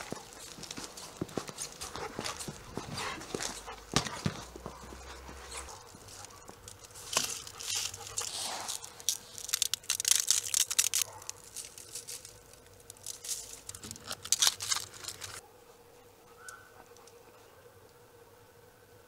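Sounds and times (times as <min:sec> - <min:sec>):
foil tray crinkling: 0:00.0 - 0:15.4.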